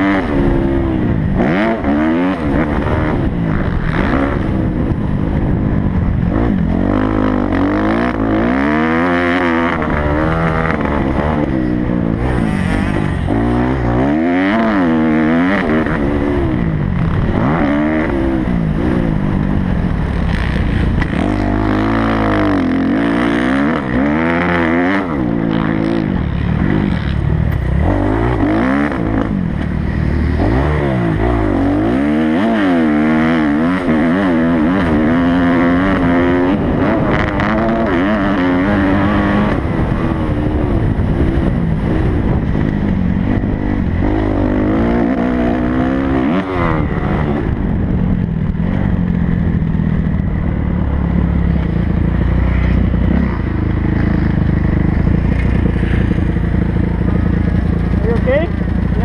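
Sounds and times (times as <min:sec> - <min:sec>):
motocross bike engine revving: 0:00.0 - 0:49.0, 0:50.6 - 0:59.0
rush of wind: 0:00.0 - 0:59.0.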